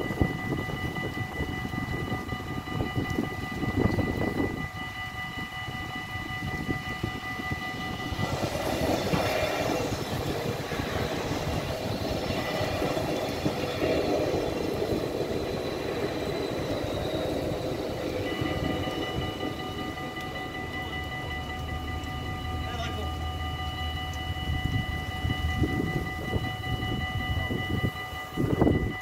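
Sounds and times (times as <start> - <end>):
level-crossing bells ringing: 0.0 - 29.0
train rumbling over rails: 0.0 - 29.0.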